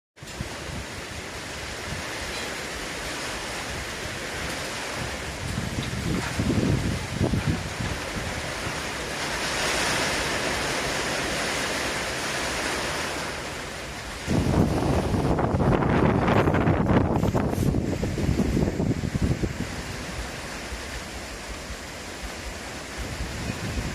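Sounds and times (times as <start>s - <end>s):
wind buffeting microphone: 0.2s - 13.1s, 13.9s - 23.9s
gusty wind rushing: 0.2s - 23.9s.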